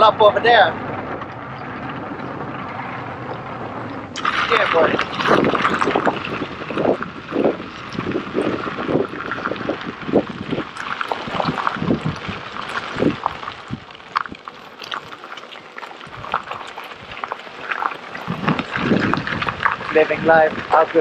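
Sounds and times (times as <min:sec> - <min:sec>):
unicycle rattling over rough trail: 0:00.0 - 0:21.0.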